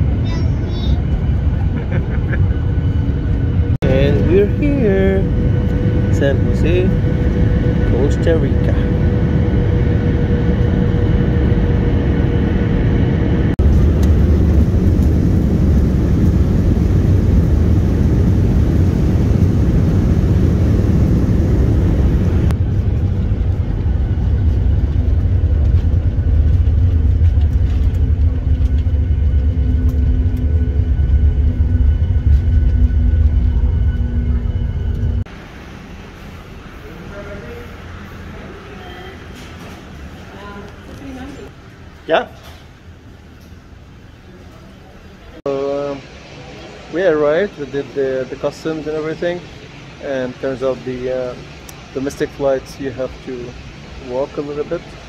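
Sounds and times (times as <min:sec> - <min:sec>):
jet engine cabin rumble: 0:00.0 - 0:41.9, 0:42.5 - 0:55.0.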